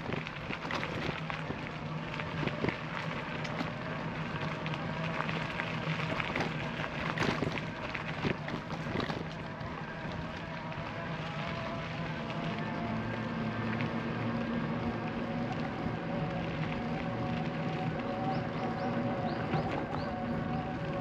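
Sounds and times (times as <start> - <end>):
bicycle tyre rolling: 0.0 - 21.0
small clicks and rattles: 0.0 - 21.0.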